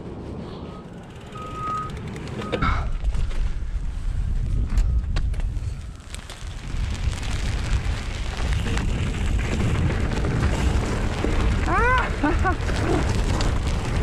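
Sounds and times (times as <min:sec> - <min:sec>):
bike tyres rolling over dirt: 0:00.8 - 0:14.0
wind buffeting microphone: 0:02.0 - 0:14.0.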